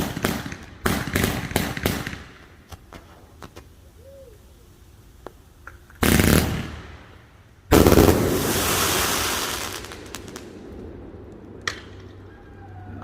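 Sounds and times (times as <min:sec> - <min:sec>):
firework blasts: 0:00.0 - 0:13.0.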